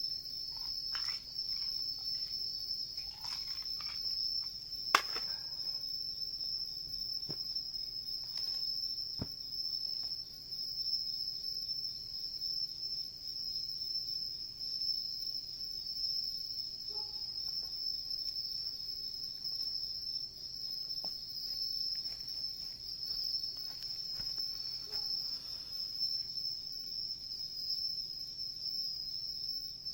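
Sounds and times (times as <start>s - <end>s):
crickets chirping: 0.0s - 29.9s.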